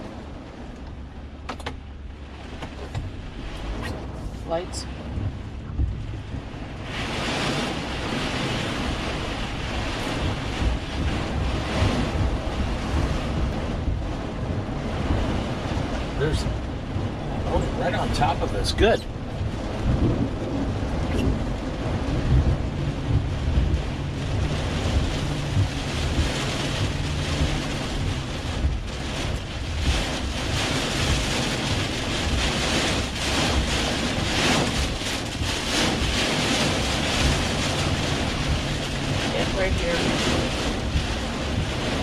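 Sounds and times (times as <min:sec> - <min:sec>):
wind buffeting a vehicle: 0:00.0 - 0:42.0.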